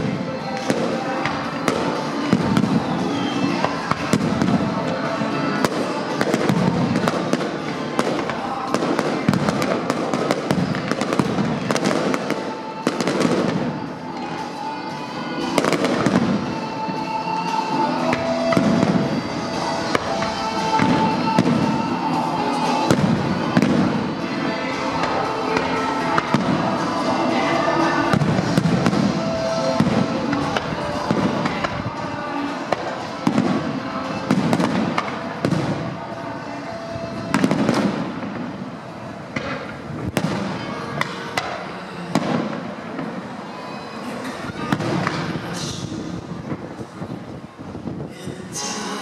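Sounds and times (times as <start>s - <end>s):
fireworks bursting with bangs: 0.0s - 14.8s, 15.4s - 48.8s
music playing: 0.0s - 49.0s.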